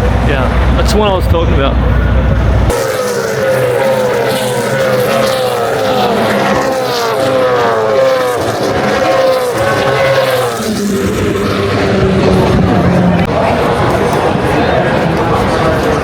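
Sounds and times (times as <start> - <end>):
race cars passing at high speed: 0.0 - 16.0.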